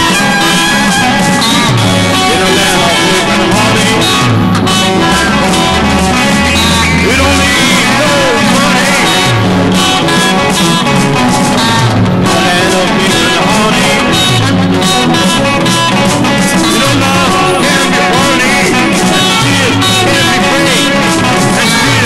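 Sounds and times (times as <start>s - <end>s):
bass guitar: 0.0s - 22.0s
drums: 0.0s - 22.0s
electric guitars: 0.0s - 22.0s.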